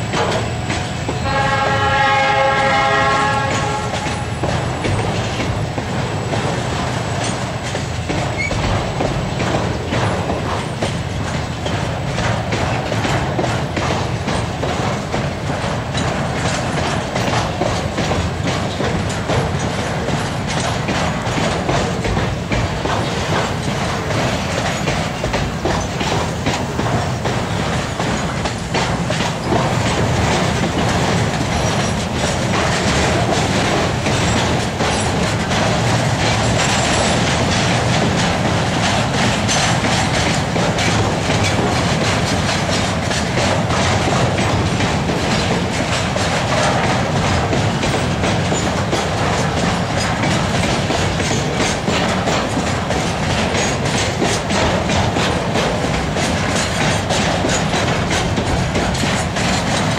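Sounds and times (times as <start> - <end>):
low train rumble: 0.0 - 59.9
train wheels clattering over rail joints: 0.0 - 59.9.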